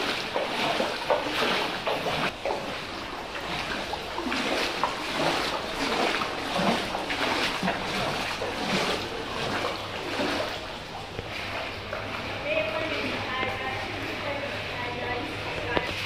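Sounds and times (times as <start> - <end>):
footsteps splashing through water: 0.0 - 14.2.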